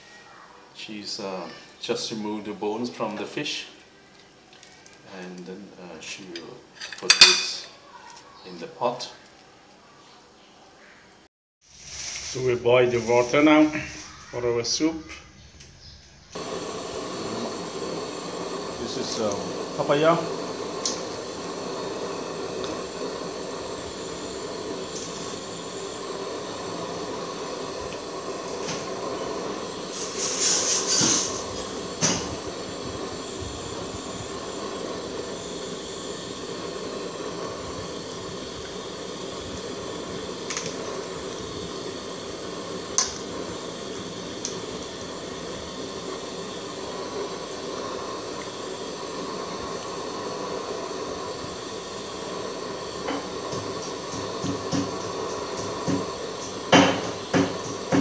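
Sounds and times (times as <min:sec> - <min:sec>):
stove burner hissing: 0:00.0 - 0:58.0.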